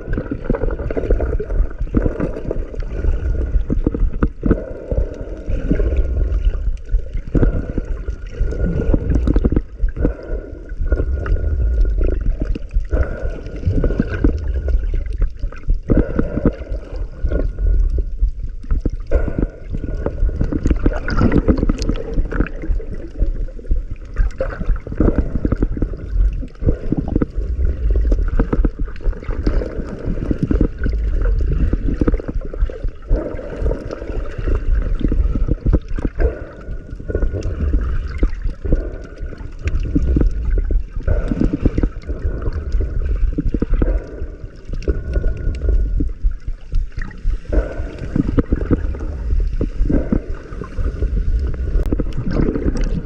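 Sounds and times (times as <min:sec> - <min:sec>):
underwater gurgling and rushing: 0:00.0 - 0:53.0.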